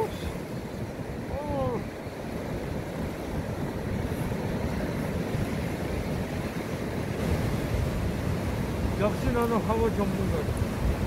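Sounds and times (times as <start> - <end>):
sea surf washing ashore: 0.0 - 11.0
wind on microphone: 0.0 - 11.0.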